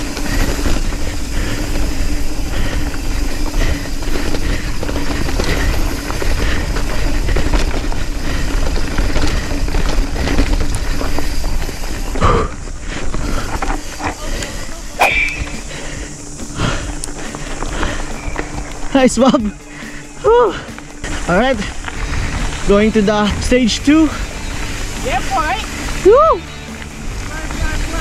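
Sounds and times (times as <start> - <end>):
wind rushing over microphone: 0.0 - 19.6, 21.1 - 26.0
bike knocking and rattling: 0.0 - 28.0
bike tyre noise: 0.0 - 28.0.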